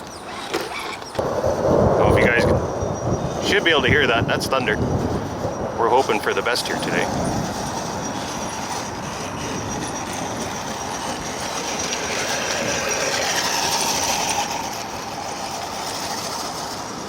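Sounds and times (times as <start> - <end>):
rolling thunder rumble: 1.2 - 17.0.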